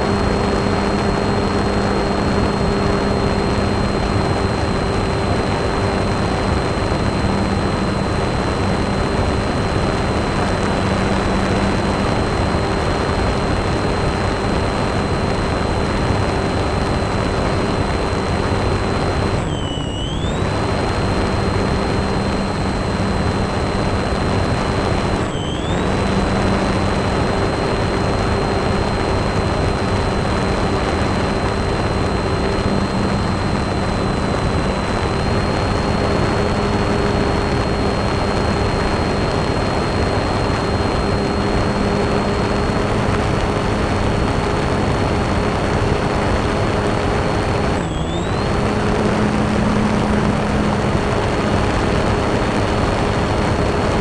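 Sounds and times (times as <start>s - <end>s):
model aircraft motor whine: 0.0s - 54.0s
rushing wind noise: 0.0s - 54.0s.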